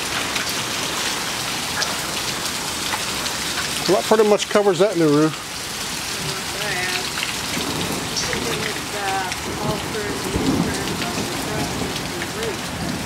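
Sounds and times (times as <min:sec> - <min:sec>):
hail and heavy rain: 0:00.0 - 0:13.0.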